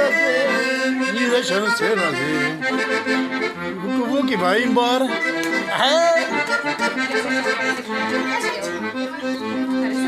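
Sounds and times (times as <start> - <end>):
accordion playing a tune: 0.0 - 10.0.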